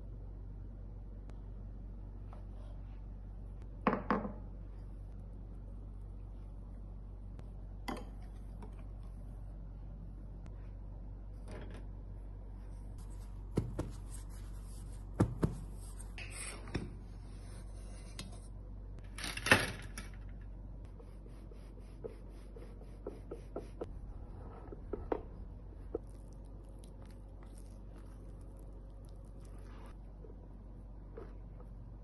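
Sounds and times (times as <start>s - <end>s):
steady low hum: 0.0s - 19.2s, 19.9s - 32.0s.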